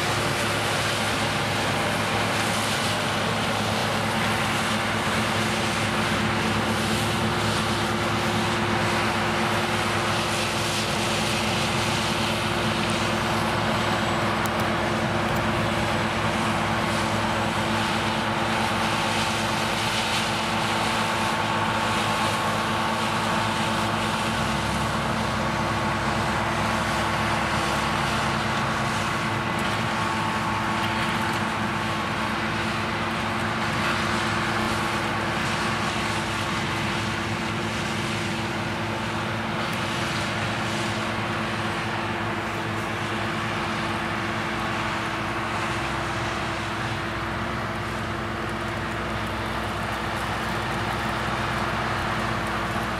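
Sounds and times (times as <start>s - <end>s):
combine harvester diesel drone: 0.0s - 52.9s
threshing machinery hum: 0.0s - 52.9s.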